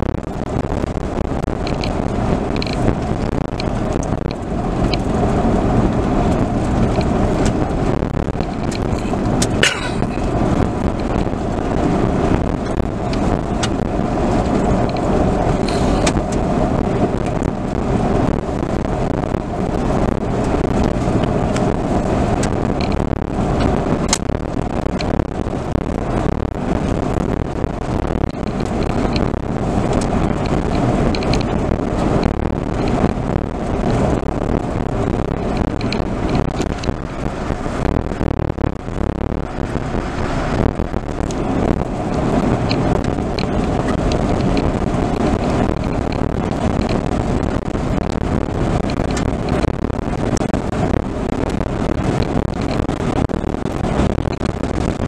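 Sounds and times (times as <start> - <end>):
tyre noise on gravel road: 0.0 - 55.0.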